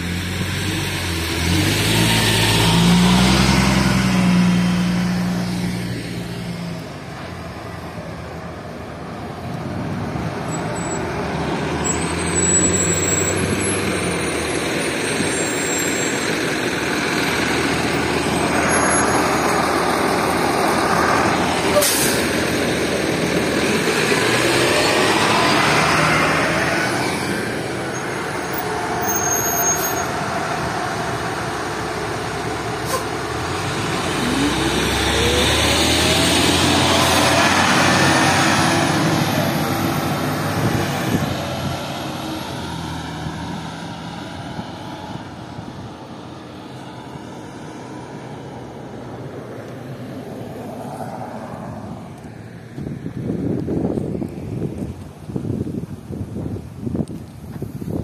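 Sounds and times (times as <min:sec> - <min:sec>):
bus engine hum: 0:00.0 - 0:58.0.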